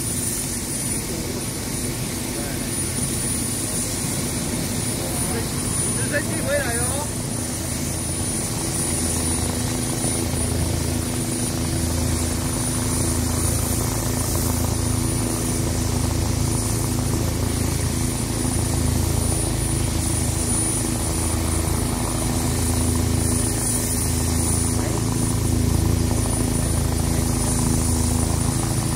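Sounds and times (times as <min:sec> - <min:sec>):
helicopter rotor beat: 0:00.0 - 0:28.9
turbine hum: 0:00.0 - 0:28.9.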